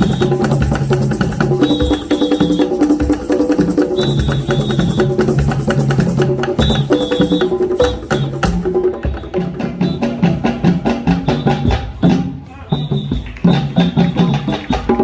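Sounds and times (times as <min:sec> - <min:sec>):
woodblock-like percussion beat: 0:00.0 - 0:15.0.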